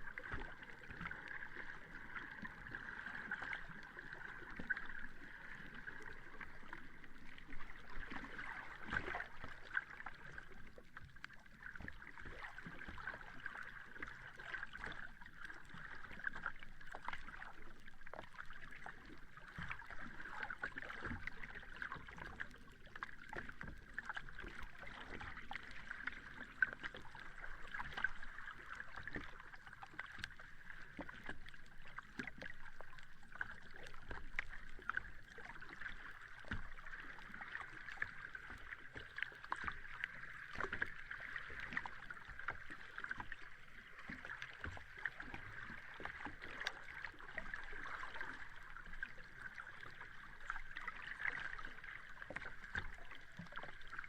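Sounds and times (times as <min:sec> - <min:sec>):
sea water lapping at shore: 0:00.0 - 0:54.0.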